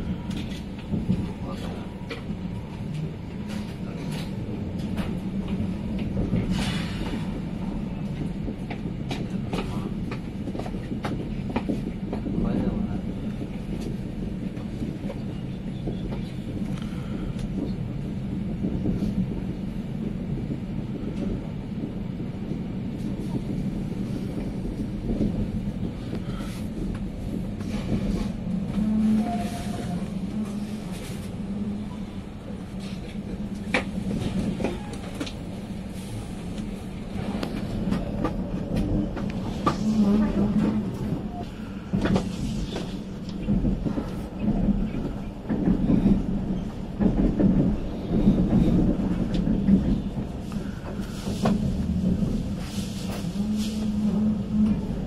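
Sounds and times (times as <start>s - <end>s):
train rumble from aboard: 0.0s - 55.0s.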